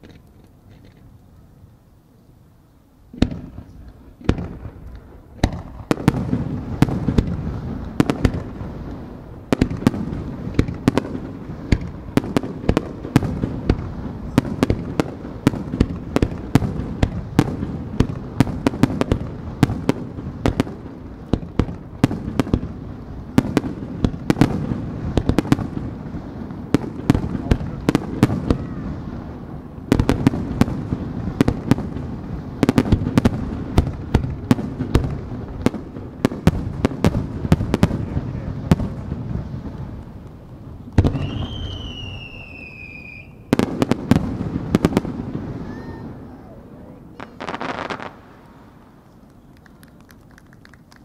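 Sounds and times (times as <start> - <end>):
fireworks bursting: 3.0 - 51.0.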